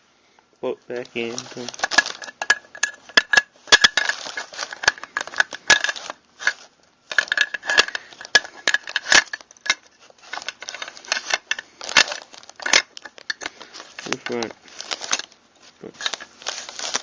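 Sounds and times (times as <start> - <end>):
shotgun parts clicking and clattering: 1.3 - 15.3.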